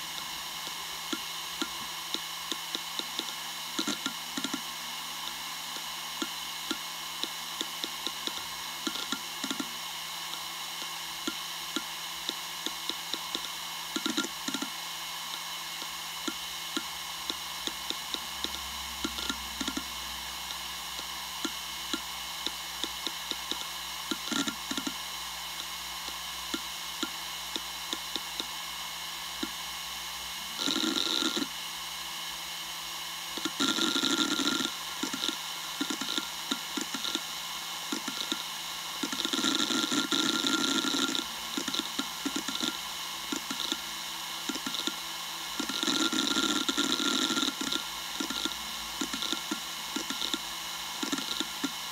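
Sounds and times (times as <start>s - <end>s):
hard drive seek clicks: 0.0s - 29.8s, 30.5s - 31.6s, 33.2s - 51.9s
hard drive whine: 0.0s - 51.9s.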